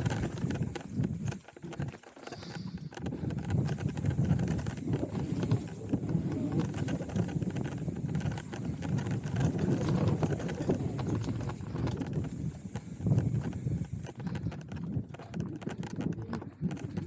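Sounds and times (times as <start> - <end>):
bike rattling and knocking: 0.0 - 17.0
bike tyres rumbling on dirt: 0.0 - 17.0.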